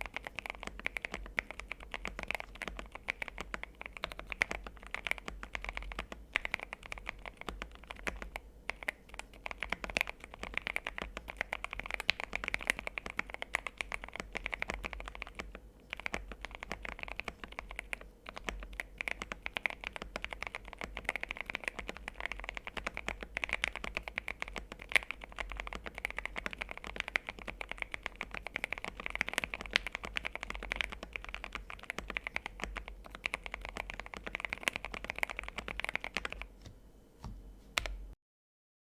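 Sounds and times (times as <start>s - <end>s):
mechanical keyboard typing: 0.0s - 36.7s.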